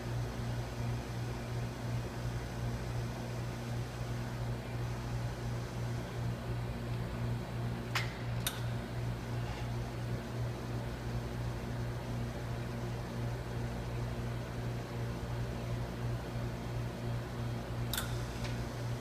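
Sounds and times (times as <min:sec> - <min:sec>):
low electric machine hum: 0:00.0 - 0:19.0.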